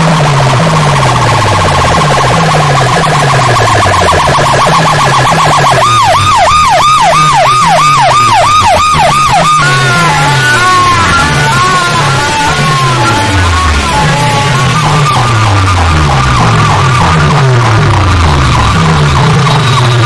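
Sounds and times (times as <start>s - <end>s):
loud electronic dance music: 0.0s - 20.0s
repeating stepped bass line: 0.0s - 20.0s
siren-style electronic effect: 0.0s - 20.0s.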